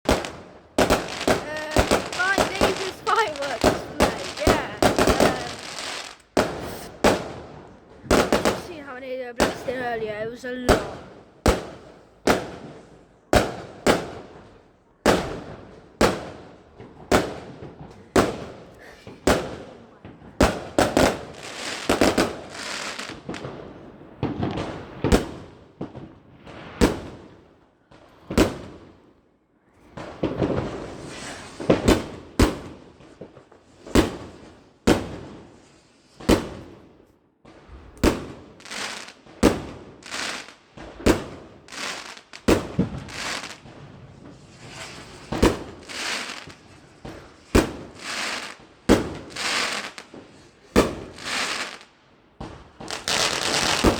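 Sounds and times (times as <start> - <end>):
fireworks banging: 0.0 - 29.0, 29.9 - 53.9
fireworks hissing and crackling: 0.0 - 29.1, 29.8 - 53.9.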